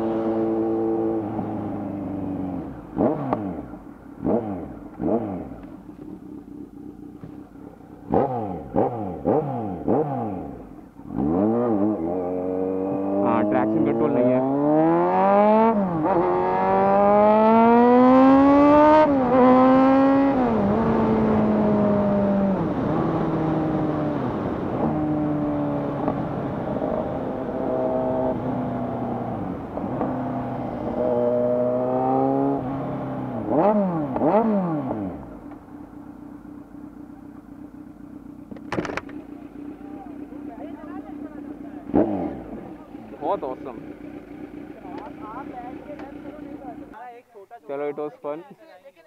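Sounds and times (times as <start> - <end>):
motorcycle engine accelerating: 0.0 - 47.1
motorcycle throttle blips: 0.6 - 22.1, 25.8 - 47.0.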